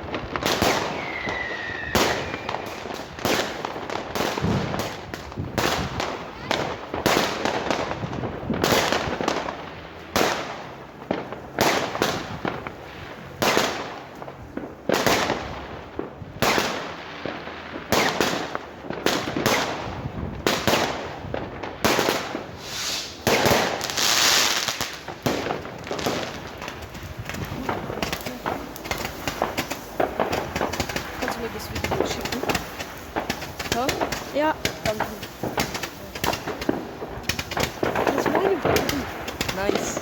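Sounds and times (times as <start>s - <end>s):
firecracker crackling: 0.0s - 40.0s
fireworks bangs and pops: 0.0s - 40.0s.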